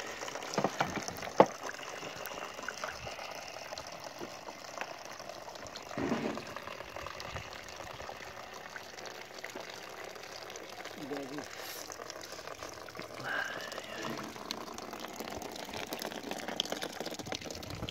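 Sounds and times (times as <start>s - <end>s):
juice trickling into a plastic basin: 0.0s - 17.9s.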